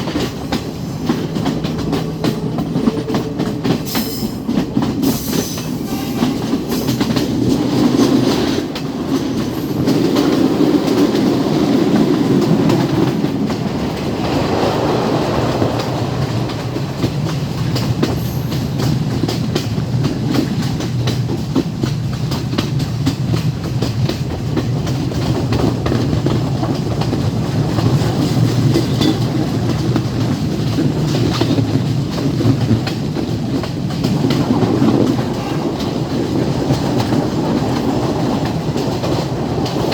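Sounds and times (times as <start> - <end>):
train rumble: 0.0 - 39.9
train wheels clattering on rails: 0.0 - 39.9.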